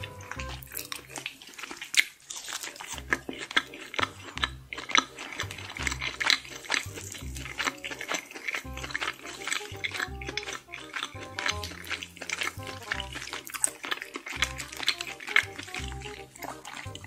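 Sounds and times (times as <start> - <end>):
background music with low beat: 0.0 - 1.2, 2.9 - 17.0
crunching and chewing food: 0.0 - 17.0.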